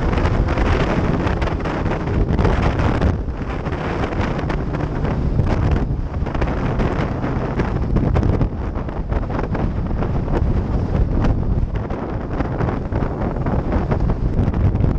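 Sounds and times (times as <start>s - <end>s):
motorcycle running: 0.0s - 14.9s
road noise: 0.0s - 14.9s
wind buffeting microphone: 0.0s - 14.9s.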